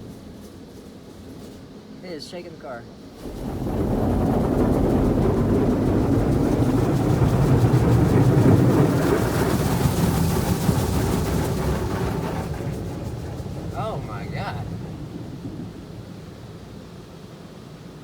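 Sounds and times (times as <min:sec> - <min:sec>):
water spray rushing against car: 0:03.1 - 0:18.0.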